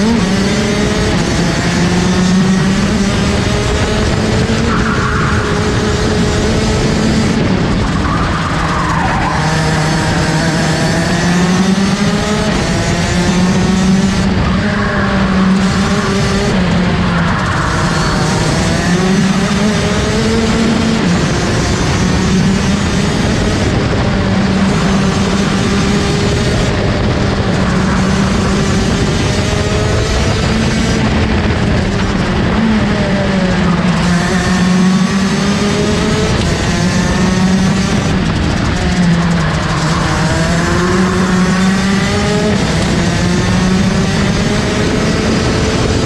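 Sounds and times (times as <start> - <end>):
kart engine at racing speed: 0.0 - 46.0.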